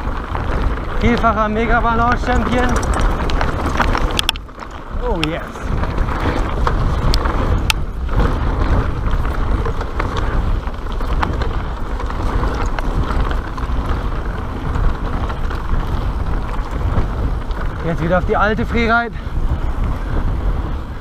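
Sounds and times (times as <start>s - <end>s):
bike rattling: 0.0s - 21.0s
tyres rumbling on dirt and stones: 0.0s - 21.0s
wind buffeting microphone: 0.0s - 21.0s.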